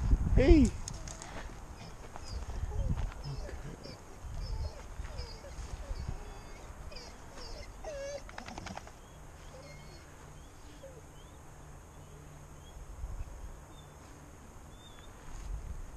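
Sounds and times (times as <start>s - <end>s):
wild birds chirping and calling: 0.9s - 14.0s.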